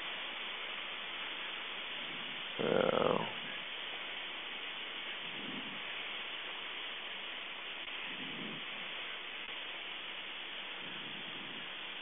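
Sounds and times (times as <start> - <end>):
airplane cabin engine hiss: 0.0 - 12.0.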